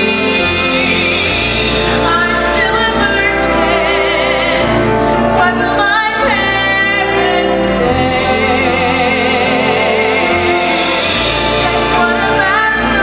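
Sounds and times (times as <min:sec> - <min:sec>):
sustained instrumental accompaniment: 0:00.0 - 0:13.0
woman singing with vibrato: 0:00.0 - 0:13.0.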